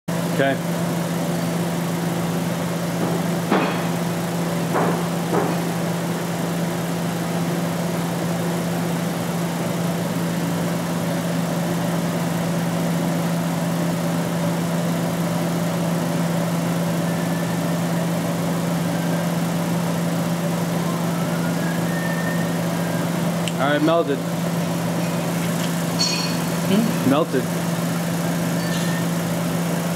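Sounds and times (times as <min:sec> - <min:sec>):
heating equipment humming: 0:00.1 - 0:29.9.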